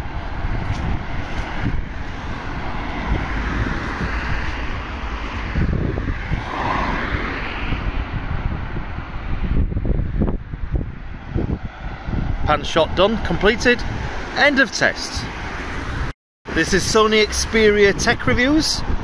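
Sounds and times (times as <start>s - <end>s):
road traffic passing: 0.0s - 19.0s
wind rumble on microphone: 0.0s - 19.0s.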